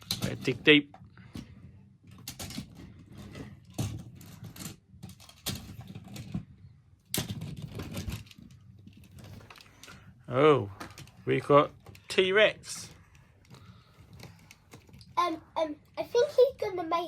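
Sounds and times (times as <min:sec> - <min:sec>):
toy trucks clattering together: 0:00.0 - 0:15.4.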